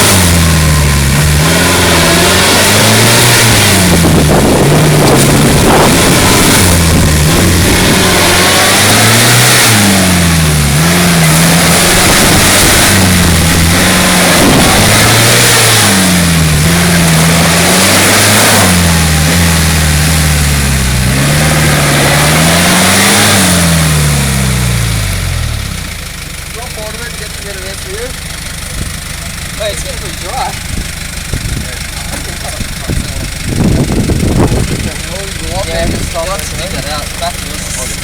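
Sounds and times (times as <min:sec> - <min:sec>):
diesel engine revving hard: 0:00.0 - 0:38.0.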